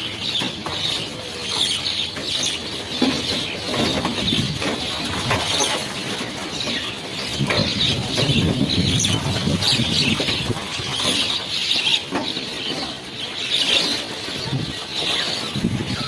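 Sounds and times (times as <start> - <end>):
small birds chattering: 0.0 - 16.0.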